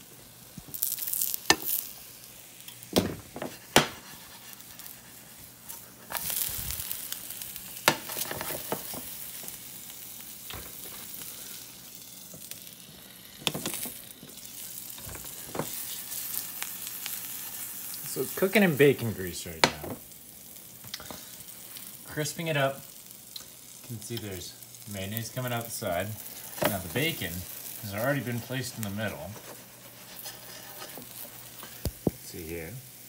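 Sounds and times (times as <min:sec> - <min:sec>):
sandwich sizzling in a pan: 0:00.0 - 0:33.0.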